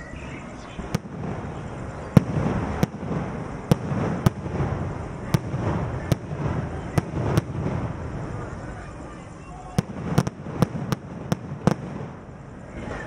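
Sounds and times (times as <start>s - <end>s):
fireworks bangs: 0.7s - 13.0s.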